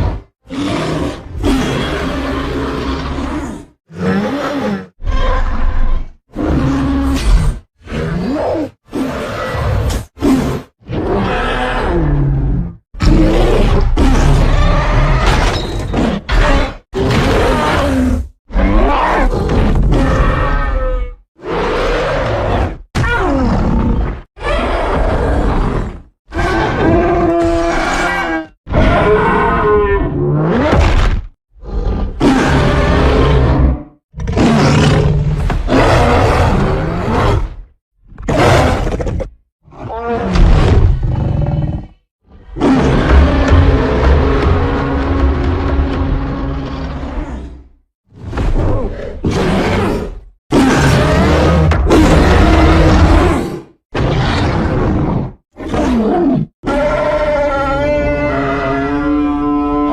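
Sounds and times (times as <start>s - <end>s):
giant ape roars and grunts: 0.0s - 59.9s.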